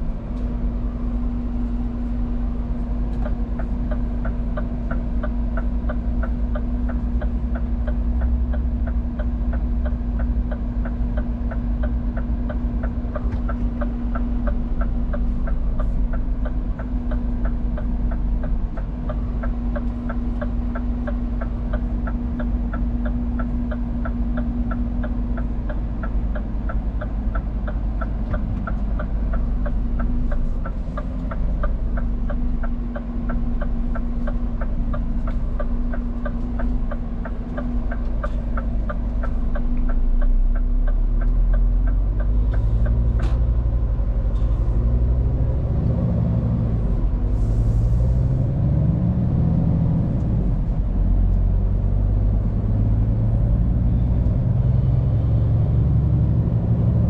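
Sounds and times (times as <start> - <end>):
diesel engine rumble: 0.0 - 57.0.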